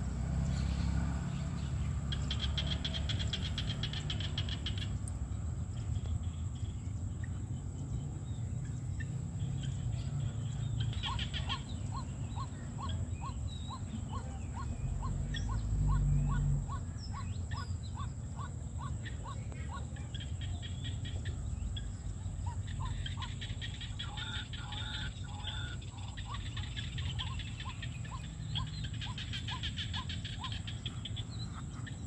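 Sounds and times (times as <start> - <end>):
frogs croaking in chorus: 0.0 - 32.0
frogs rapid clicking calls: 0.2 - 32.0.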